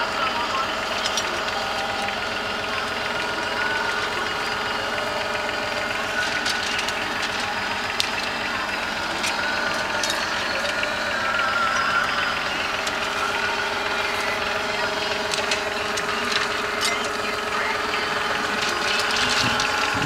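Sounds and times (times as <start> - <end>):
vehicle engine running steadily: 0.0 - 20.0.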